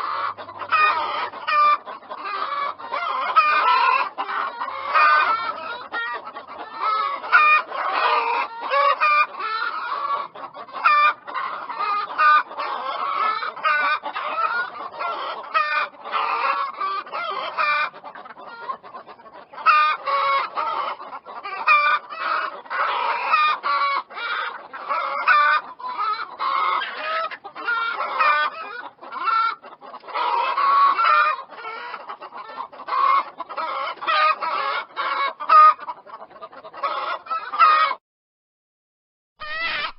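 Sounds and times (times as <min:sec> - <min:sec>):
chickens clucking: 0:00.0 - 0:38.0, 0:39.4 - 0:39.9.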